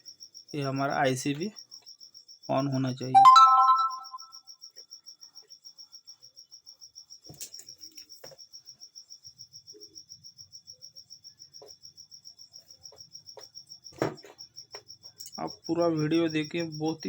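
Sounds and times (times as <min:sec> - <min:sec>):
cricket chirping: 0:00.0 - 0:03.1, 0:04.6 - 0:17.0.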